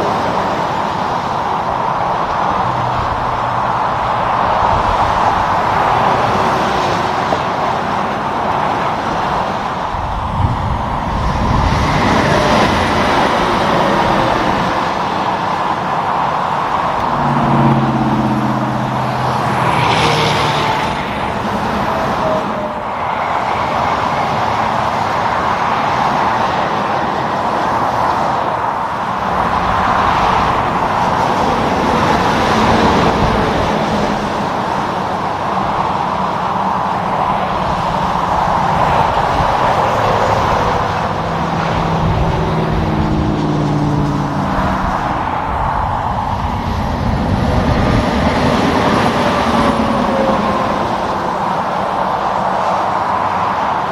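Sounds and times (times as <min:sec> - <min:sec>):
truck engine passing: 0:00.0 - 0:53.6
road traffic passing: 0:00.0 - 0:53.9.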